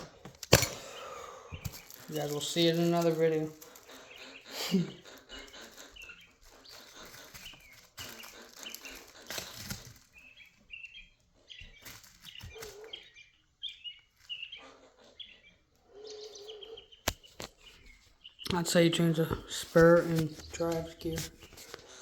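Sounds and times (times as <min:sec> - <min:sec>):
rustling handling noise: 0:00.0 - 0:14.5, 0:17.1 - 0:22.0
small birds chirping: 0:00.0 - 0:22.0.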